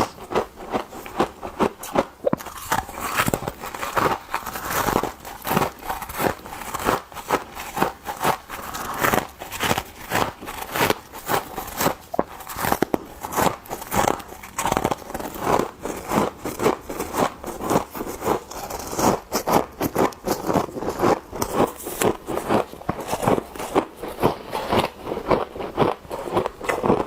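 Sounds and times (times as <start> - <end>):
frost crunching: 0.0 - 27.0.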